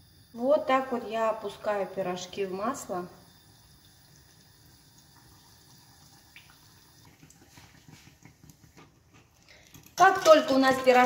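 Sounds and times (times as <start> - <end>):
dough frying in hot oil: 0.0 - 11.0.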